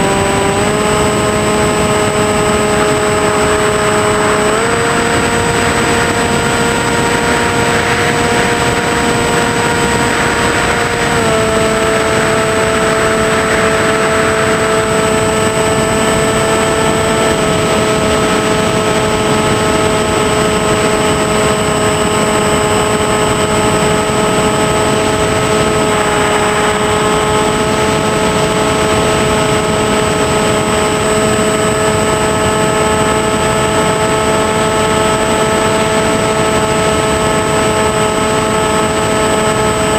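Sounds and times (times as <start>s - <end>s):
rushing air: 0.0s - 37.4s
rc airplane motor whining: 0.0s - 39.9s.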